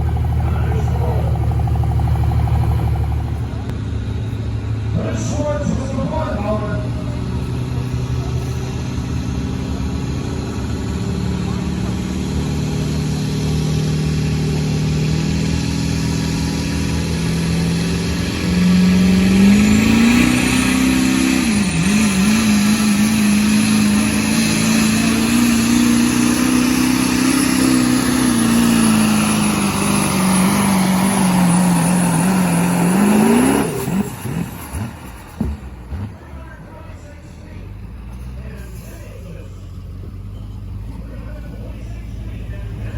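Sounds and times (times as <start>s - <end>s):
diesel truck engine at full throttle: 0.0s - 42.9s.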